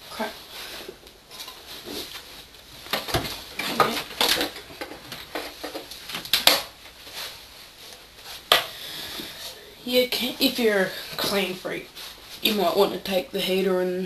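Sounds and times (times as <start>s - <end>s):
rustling: 0.0s - 9.6s, 11.2s - 13.1s.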